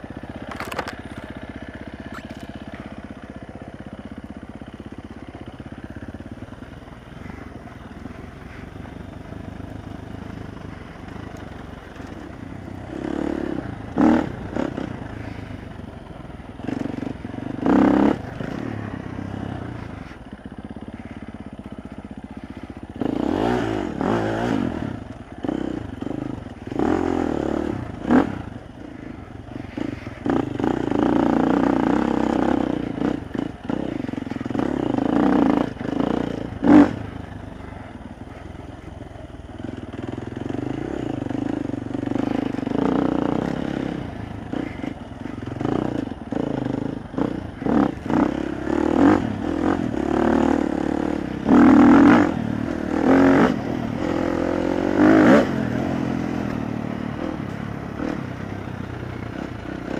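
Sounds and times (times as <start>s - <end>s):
dirt bike engine revving: 2.0s - 59.9s.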